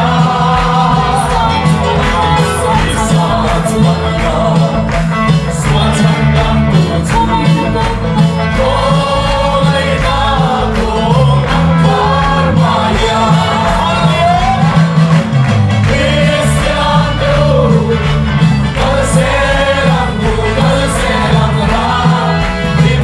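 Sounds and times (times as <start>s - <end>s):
group singing a hymn: 0.0s - 15.0s, 15.8s - 23.0s
steady drum beat: 0.0s - 23.0s.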